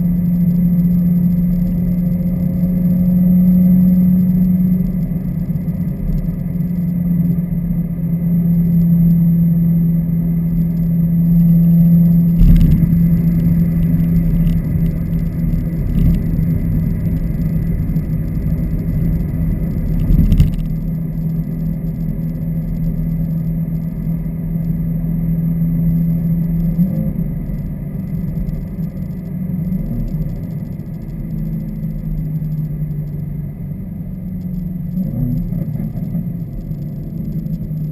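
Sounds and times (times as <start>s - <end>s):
car exhaust droning: 0.0s - 37.9s.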